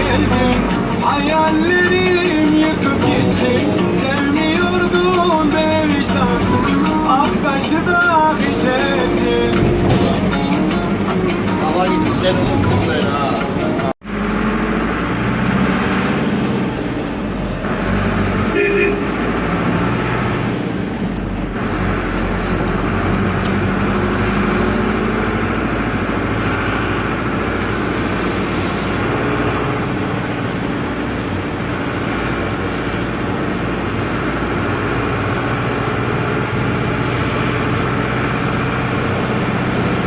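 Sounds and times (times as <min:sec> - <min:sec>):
diesel engine running loudly: 0:00.0 - 0:40.0.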